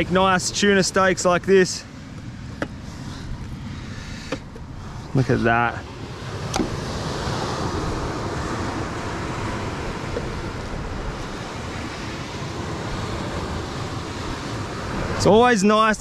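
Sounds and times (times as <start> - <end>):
surf on a beach: 0.0 - 16.0
wind on microphone: 0.0 - 16.0.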